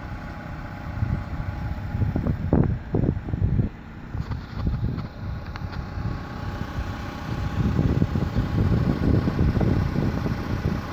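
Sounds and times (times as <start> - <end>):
car engine running: 0.0 - 10.9
wind rumbling on microphone: 0.1 - 10.9.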